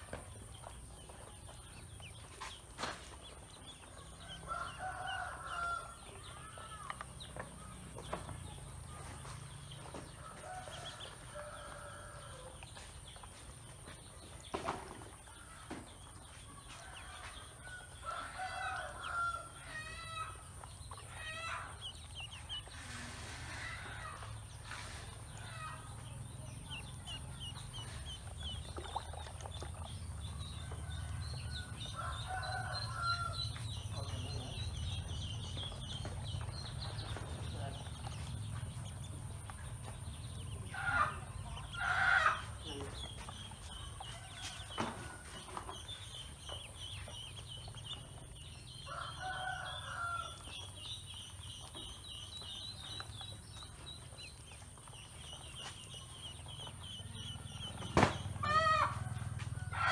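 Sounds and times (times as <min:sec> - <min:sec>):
ducklings peeping: 0:00.0 - 0:59.9.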